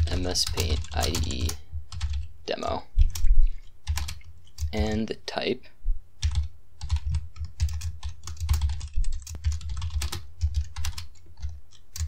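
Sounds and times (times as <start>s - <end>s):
computer keyboard typing: 0.0s - 2.3s, 3.0s - 5.1s, 6.2s - 12.0s.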